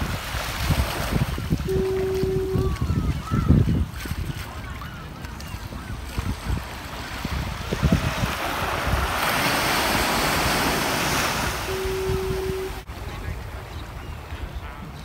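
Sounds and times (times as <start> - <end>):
small waves lapping on sand: 0.0 - 14.7
wind buffeting microphone: 0.0 - 15.0.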